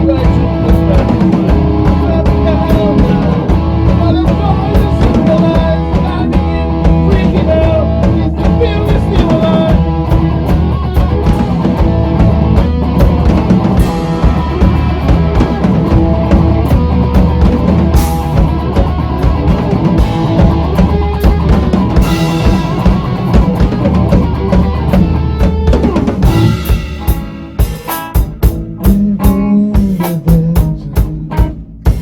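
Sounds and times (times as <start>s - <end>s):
bass drum and snare hits: 0.0s - 32.0s
bass notes: 0.0s - 32.0s
electric guitar notes: 0.0s - 32.0s.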